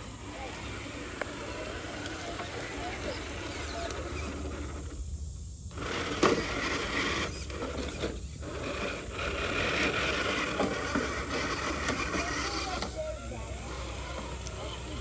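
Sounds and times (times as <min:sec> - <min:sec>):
toy truck motor whirring: 0:00.0 - 0:15.0.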